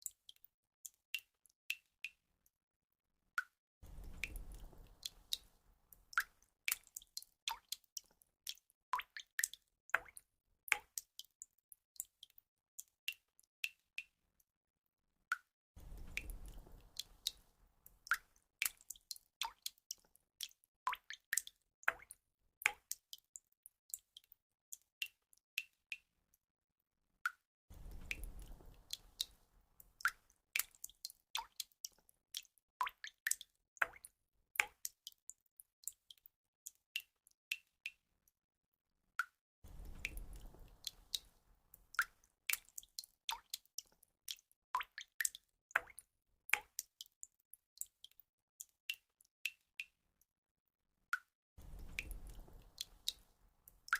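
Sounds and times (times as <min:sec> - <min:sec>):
water drops dripping: 0:00.0 - 0:02.2, 0:03.4 - 0:14.2, 0:15.3 - 0:26.1, 0:27.3 - 0:38.0, 0:39.2 - 0:50.0, 0:51.2 - 0:53.9.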